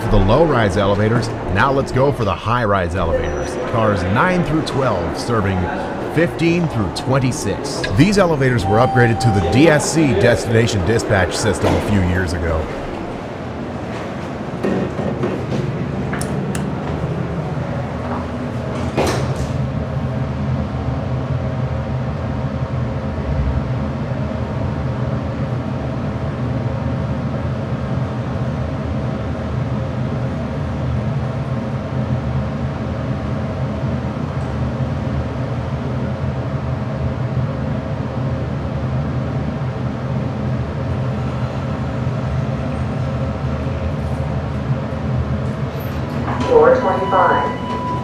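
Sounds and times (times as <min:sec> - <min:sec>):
elevator humming: 0:00.0 - 0:48.0.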